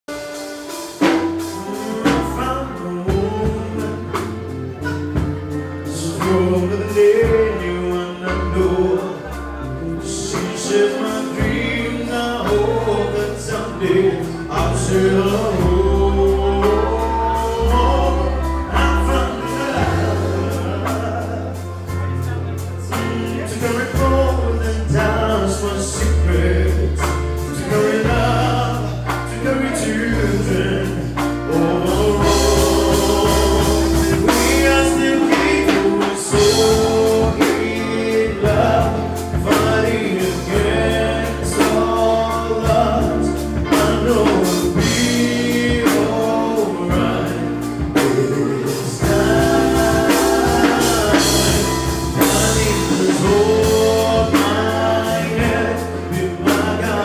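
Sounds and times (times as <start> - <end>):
live band playing: 0.0 - 57.0
man singing into microphone: 1.5 - 57.0.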